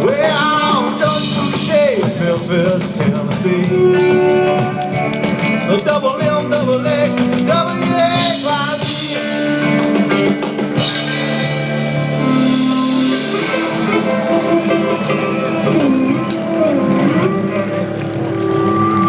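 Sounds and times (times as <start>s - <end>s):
person singing: 0.0s - 9.8s, 12.2s - 17.8s
drums: 0.0s - 19.0s
guitars: 0.0s - 19.0s.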